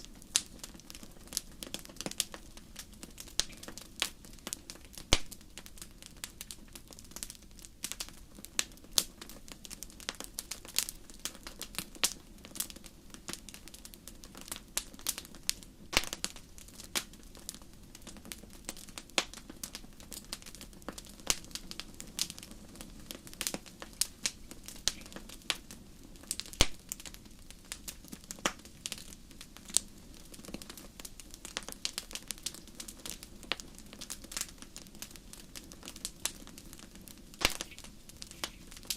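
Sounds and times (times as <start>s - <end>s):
fire low hiss: 0.0s - 38.9s
wood fire crackling and popping: 0.0s - 38.9s.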